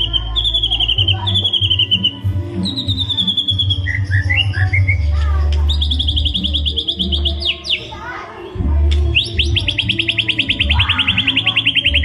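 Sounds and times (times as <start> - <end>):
bird singing trilled phrases: 0.0 - 8.0, 9.0 - 12.0.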